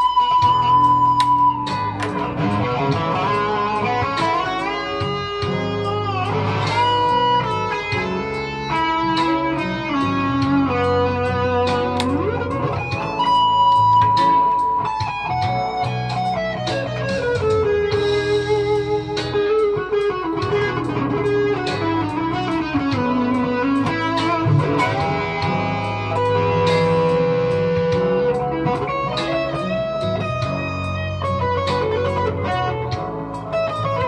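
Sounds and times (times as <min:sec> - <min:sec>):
electric guitar lead with string bends: 0:00.0 - 0:34.0
steady drum beat: 0:00.0 - 0:34.0.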